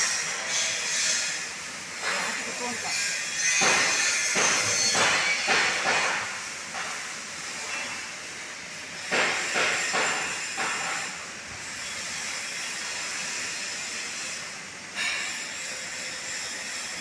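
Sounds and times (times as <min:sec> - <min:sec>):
laser cutter gas jet hissing: 0:00.0 - 0:17.0.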